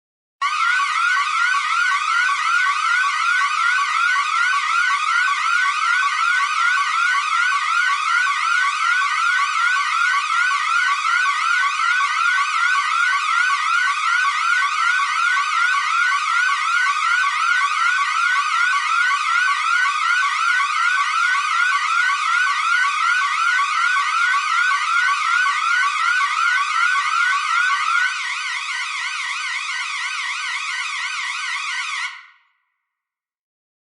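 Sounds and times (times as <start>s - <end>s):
electronic alarm siren: 0.4s - 32.6s.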